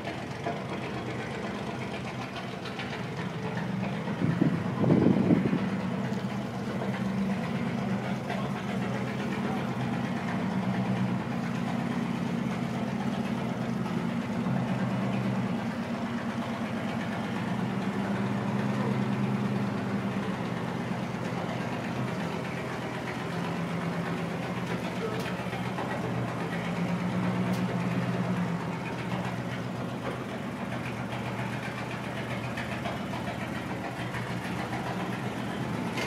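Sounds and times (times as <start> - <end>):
fire truck engine low drone: 0.0 - 36.0.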